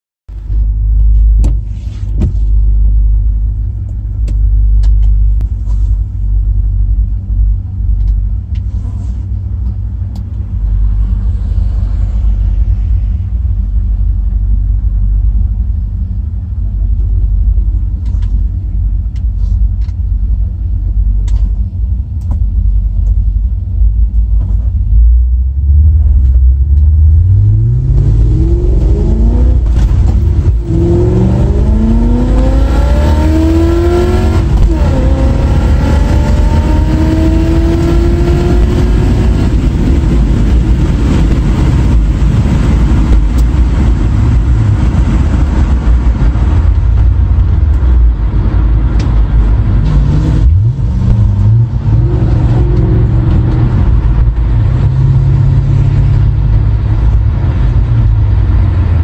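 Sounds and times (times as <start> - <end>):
car engine accelerating: 6.5 - 59.0.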